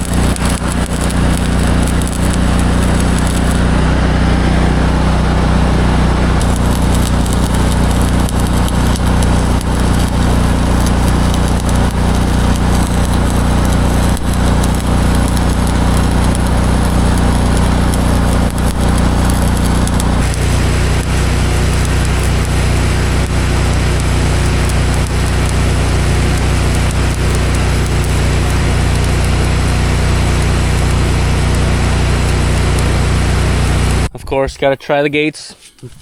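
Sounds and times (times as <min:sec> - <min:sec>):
vehicle engine running: 0:00.0 - 0:34.1.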